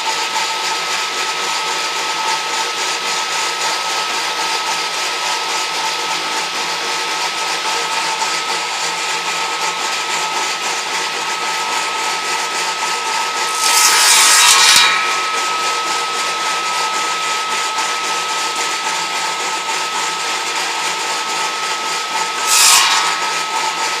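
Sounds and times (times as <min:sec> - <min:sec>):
saw blade cutting wood: 0:00.0 - 0:24.0
table saw motor whining: 0:00.0 - 0:24.0.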